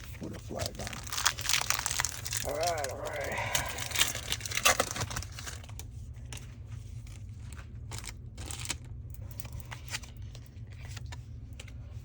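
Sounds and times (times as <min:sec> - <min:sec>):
foil wrapper crinkling: 0:00.0 - 0:11.8
low steady hum: 0:00.0 - 0:12.0.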